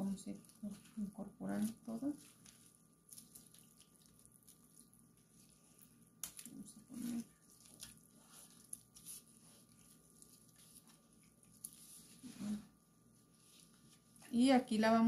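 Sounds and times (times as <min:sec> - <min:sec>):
wet tripe patter and squish: 0:00.0 - 0:12.2.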